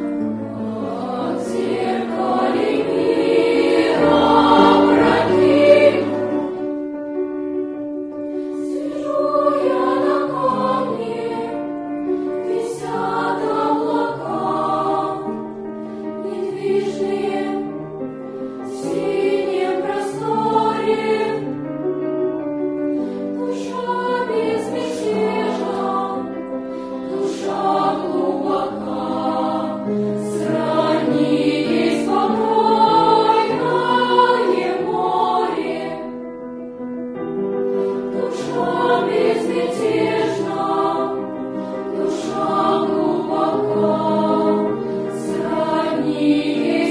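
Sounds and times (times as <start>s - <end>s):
children's choir singing: 0.0s - 7.0s, 8.6s - 21.8s, 23.1s - 36.5s, 37.8s - 46.9s.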